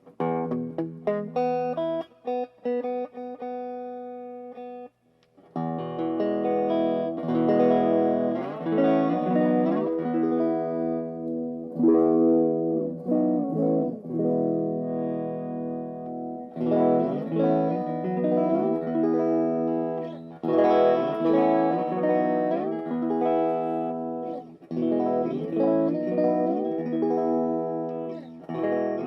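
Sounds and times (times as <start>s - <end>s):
electric guitar chords ringing: 0.0s - 4.9s, 5.5s - 29.0s.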